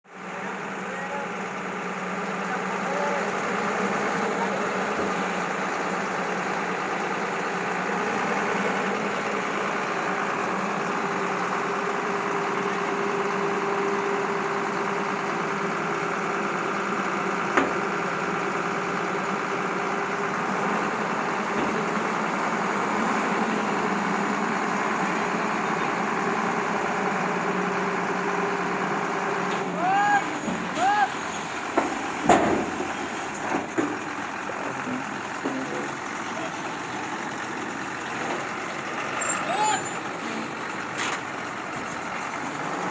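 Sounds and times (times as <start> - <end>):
heavy machinery engine running: 0.1 - 42.9.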